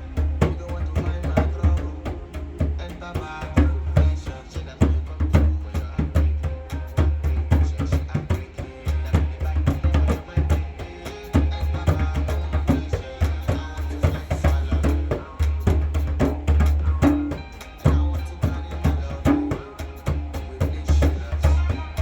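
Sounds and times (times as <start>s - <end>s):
afrobeats song: 0.0s - 22.0s.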